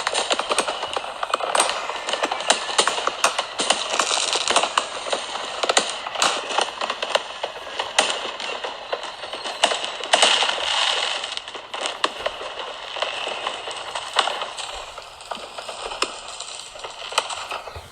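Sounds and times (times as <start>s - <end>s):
fireworks popping and crackling: 0.0s - 17.9s.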